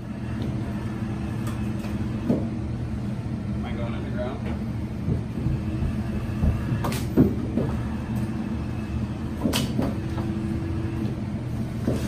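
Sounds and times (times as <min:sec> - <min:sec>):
machine engine and pump hum: 0:00.0 - 0:12.0.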